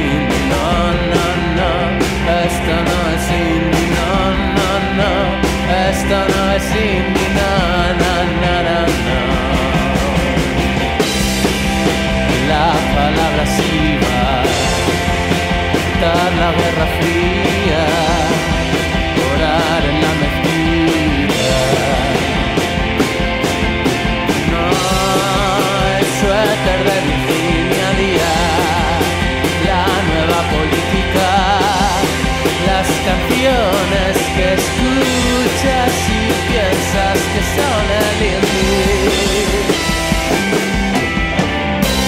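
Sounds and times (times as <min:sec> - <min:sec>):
rock music: 0:00.0 - 0:42.0
steady drum beat: 0:00.0 - 0:42.0.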